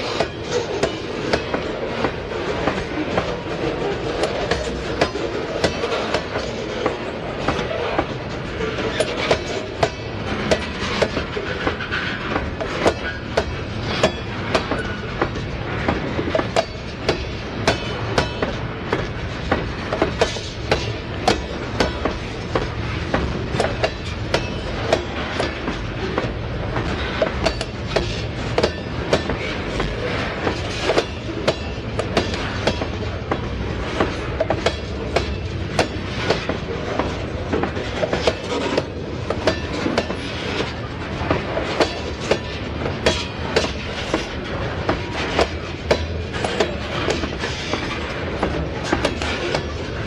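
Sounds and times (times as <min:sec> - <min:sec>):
train wheels rumbling on rail: 0:00.0 - 0:50.0
wheel clicks over rail joints: 0:00.0 - 0:50.0.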